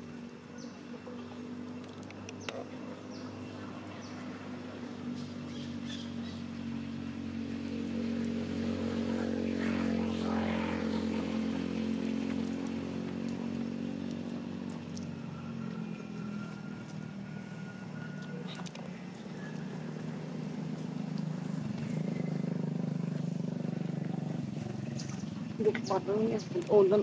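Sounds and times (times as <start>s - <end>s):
vehicle engine passing by: 0.0s - 27.0s.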